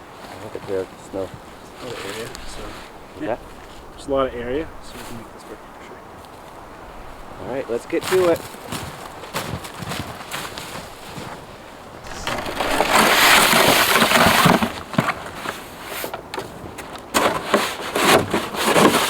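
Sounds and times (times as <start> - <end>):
snow crunching and scraping: 0.0 - 19.0.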